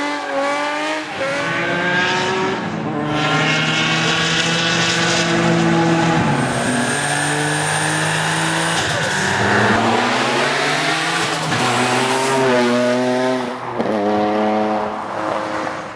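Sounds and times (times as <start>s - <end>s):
car engine accelerating with upshifts: 0.0s - 15.9s.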